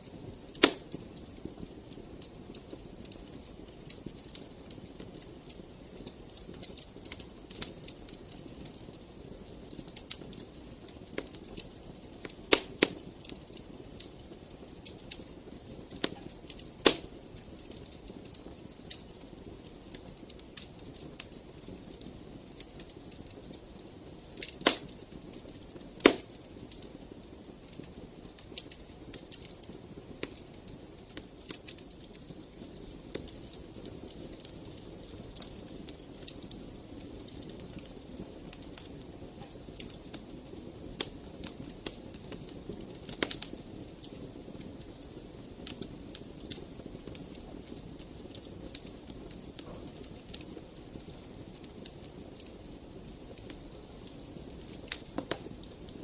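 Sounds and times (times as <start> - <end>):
fire hissing: 0.0 - 56.0
fire pops and snaps: 0.0 - 56.0.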